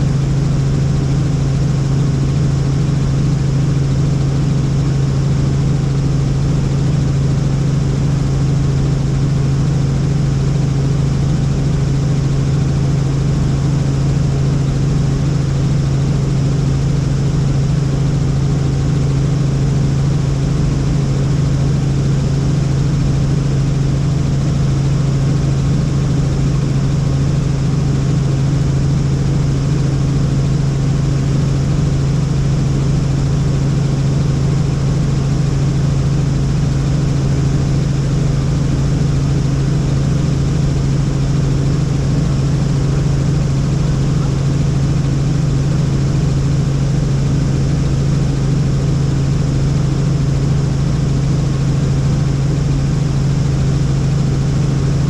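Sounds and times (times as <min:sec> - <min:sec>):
helicopter engine and rotors: 0:00.0 - 0:55.0.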